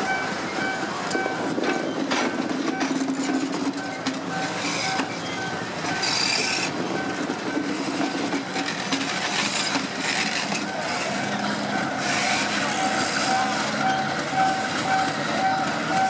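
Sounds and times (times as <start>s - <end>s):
crossing signal beeping: 0.0s - 8.6s, 10.5s - 16.0s
diesel locomotive engine drone: 0.0s - 16.0s
train wheels on rails: 0.0s - 16.0s.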